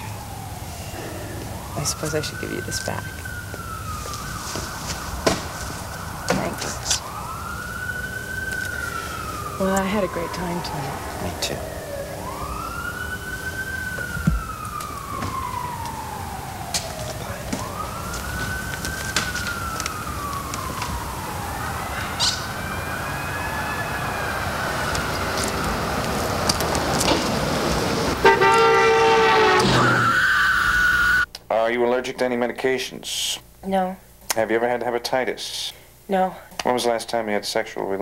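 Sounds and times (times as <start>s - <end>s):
emergency vehicle siren wailing: 0.0s - 31.3s.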